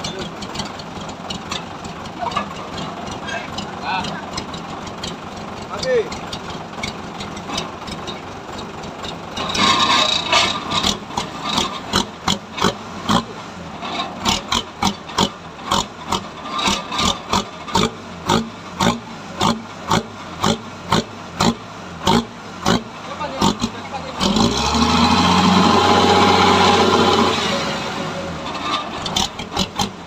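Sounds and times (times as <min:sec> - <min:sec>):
diesel engine growling exhaust: 0:00.0 - 0:30.0.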